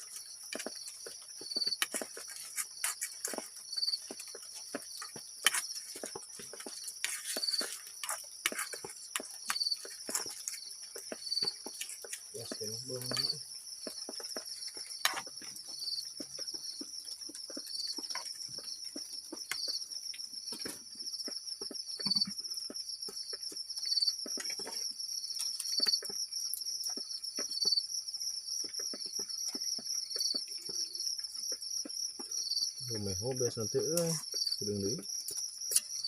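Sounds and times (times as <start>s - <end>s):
crickets and insects trilling: 0.0s - 36.0s.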